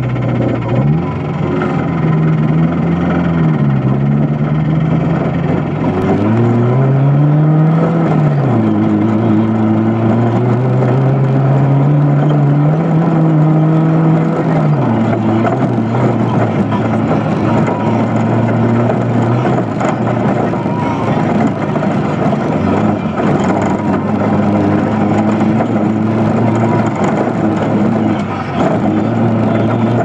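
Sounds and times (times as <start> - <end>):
engine running under throttle: 0.0 - 30.0
high-pitched engine tick: 0.0 - 30.0.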